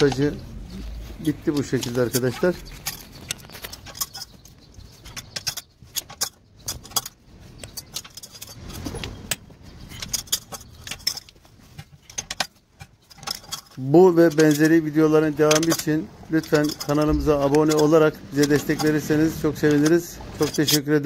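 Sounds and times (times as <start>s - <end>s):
hand tools clinking: 0.0s - 21.0s.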